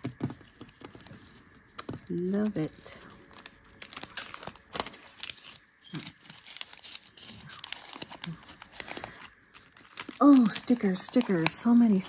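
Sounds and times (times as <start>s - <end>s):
paper stickers rustling: 0.0s - 12.0s
plastic bag crinkling: 0.1s - 12.0s.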